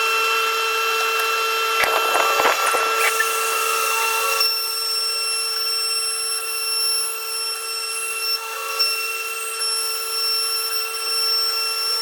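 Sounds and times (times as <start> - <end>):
machine high-pitched whine: 0.0 - 12.0.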